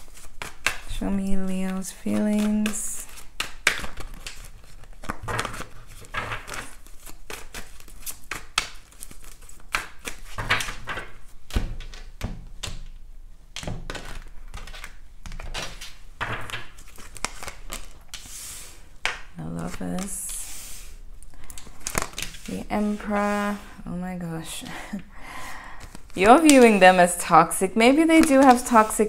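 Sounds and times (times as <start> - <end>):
cards shuffled by hand: 0.0 - 13.0, 13.6 - 23.8, 25.5 - 27.1, 27.8 - 29.0.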